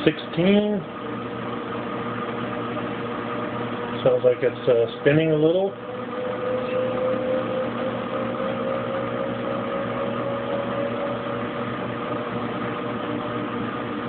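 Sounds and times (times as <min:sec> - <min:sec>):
drain pump running: 0:00.0 - 0:14.0
washing machine spinning: 0:00.0 - 0:14.0.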